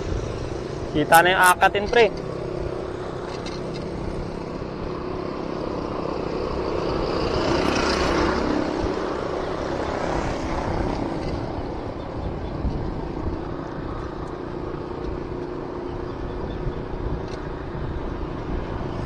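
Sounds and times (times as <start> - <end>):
motor vehicle passing: 0.0 - 19.0
wind rumble on microphone: 0.0 - 19.0.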